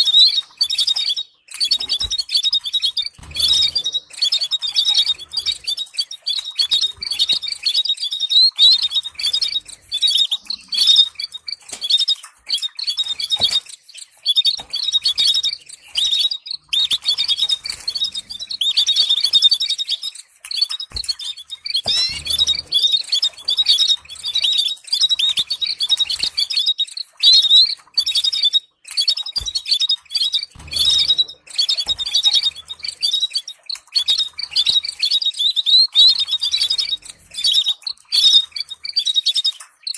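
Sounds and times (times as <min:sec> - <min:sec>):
canary trills and chirps: 0:00.0 - 0:39.9
sharp clicks: 0:00.1 - 0:39.9.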